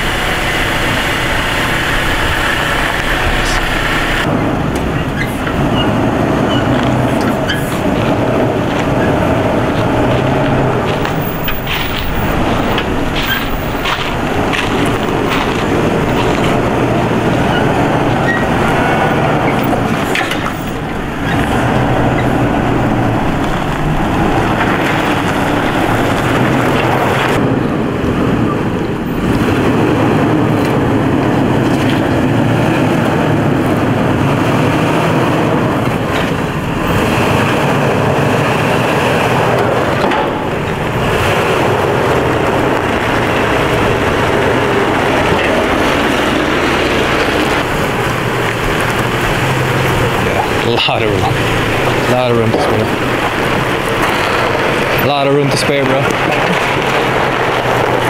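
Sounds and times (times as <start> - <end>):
vehicle engine at low speed: 0.0 - 58.0.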